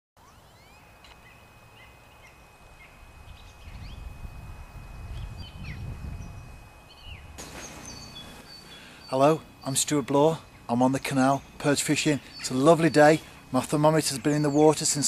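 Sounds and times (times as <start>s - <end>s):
small birds chirping: 0.2s - 4.2s, 5.1s - 15.0s
faint steady high tone: 0.2s - 15.0s.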